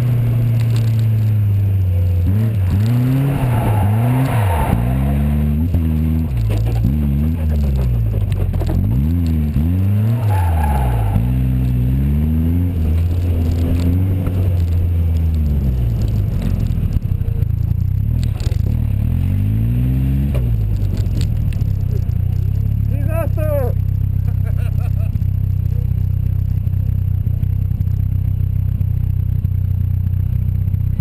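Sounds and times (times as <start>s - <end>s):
sports car engine revving: 0.0s - 27.4s
tyre road noise: 0.0s - 31.0s.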